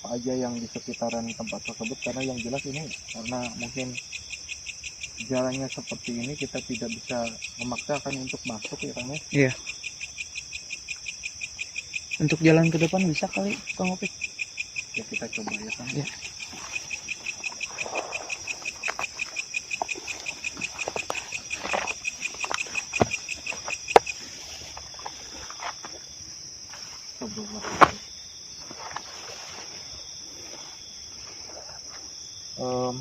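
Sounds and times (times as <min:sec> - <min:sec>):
fast pulsing insect trill: 0:00.0 - 0:33.0
insects chirring drone: 0:00.0 - 0:33.0.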